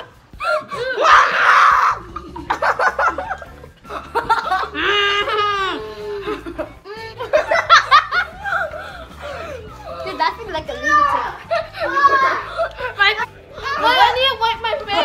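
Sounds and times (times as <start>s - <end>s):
background music: 0.0s - 15.0s
children laughing: 0.0s - 15.0s.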